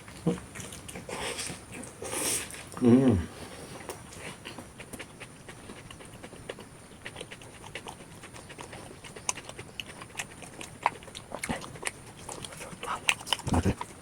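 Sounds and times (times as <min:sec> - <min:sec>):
chewing and mouth smacking: 0:00.0 - 0:02.8, 0:03.7 - 0:14.0.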